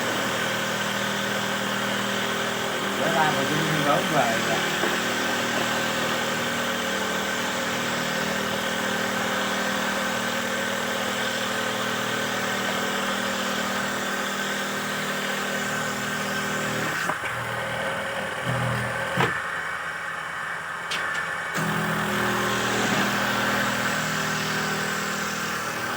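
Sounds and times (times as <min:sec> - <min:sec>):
machine motor humming with hiss: 0:00.0 - 0:17.3, 0:18.4 - 0:25.9.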